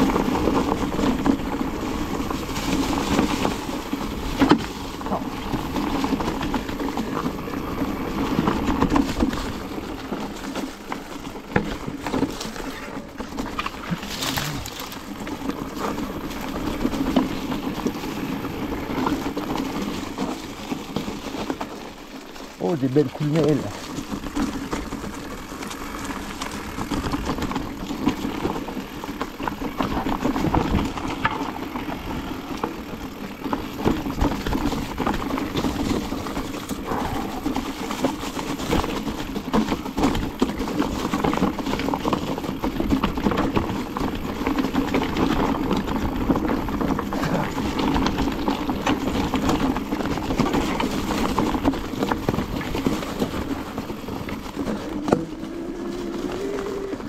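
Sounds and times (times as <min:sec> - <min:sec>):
bike rattling and knocking: 0:00.0 - 0:57.0
bike tyres over stones and leaves: 0:00.0 - 0:57.0.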